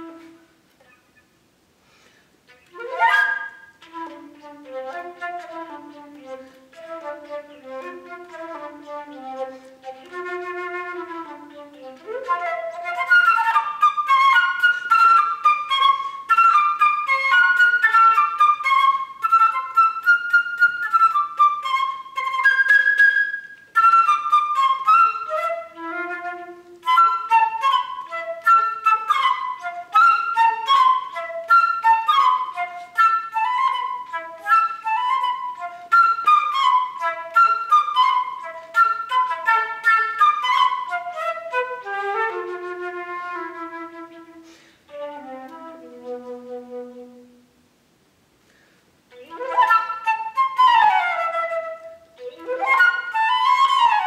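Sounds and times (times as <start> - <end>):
flute playing: 0.0 - 1.2, 2.5 - 47.6, 49.1 - 54.0.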